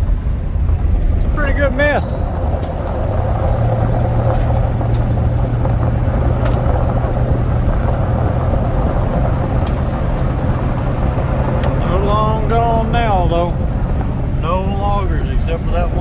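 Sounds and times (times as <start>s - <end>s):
road noise: 0.0s - 16.0s
vehicle engine drone: 0.0s - 16.0s.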